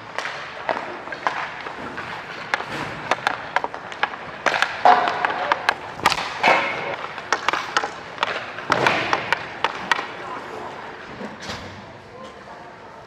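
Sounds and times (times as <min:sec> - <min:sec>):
skate blades scraping ice: 0:00.0 - 0:11.2
hockey sticks and pucks clacking: 0:00.0 - 0:12.4.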